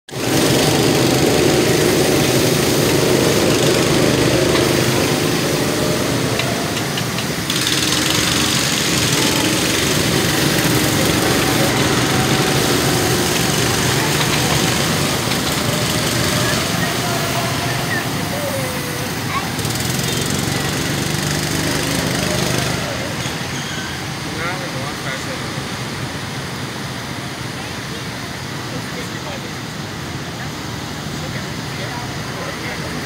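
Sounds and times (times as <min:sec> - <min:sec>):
rushing noise: 0:00.1 - 0:28.5
amusement ride motor humming: 0:00.1 - 0:33.0.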